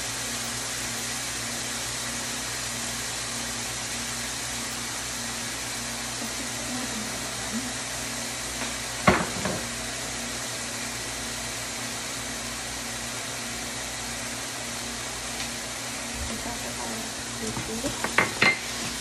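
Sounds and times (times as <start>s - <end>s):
cooktop cooling fan hum: 0.0s - 19.0s
food frying: 0.0s - 19.0s.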